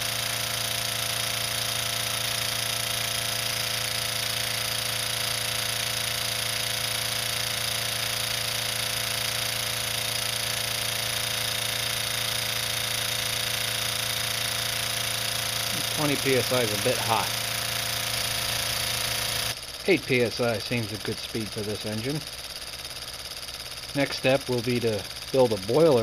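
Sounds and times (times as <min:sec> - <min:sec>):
model steam engine running fast: 0:00.0 - 0:26.0.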